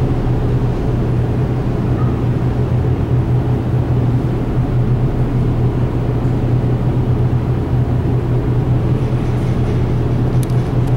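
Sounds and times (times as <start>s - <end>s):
low engine rumble: 0.0s - 10.9s.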